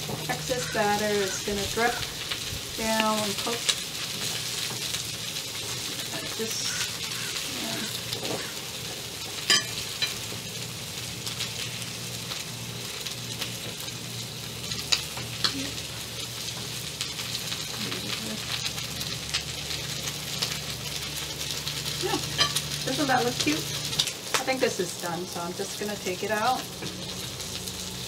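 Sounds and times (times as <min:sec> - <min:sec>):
batter sizzling in a pan: 0:00.0 - 0:28.0.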